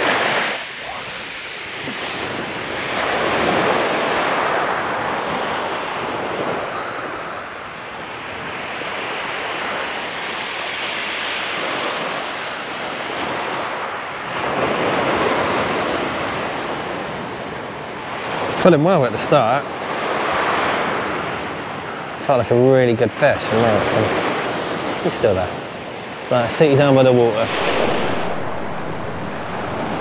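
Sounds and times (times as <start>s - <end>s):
waves washing up shingle beach: 0.0s - 30.0s.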